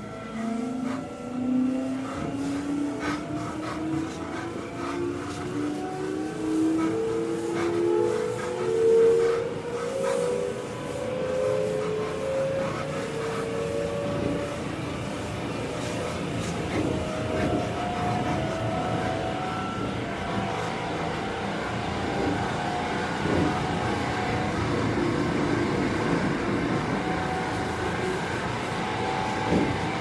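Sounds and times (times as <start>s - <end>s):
traction motor whining: 0.0s - 30.0s
train car rumbling: 0.0s - 30.0s.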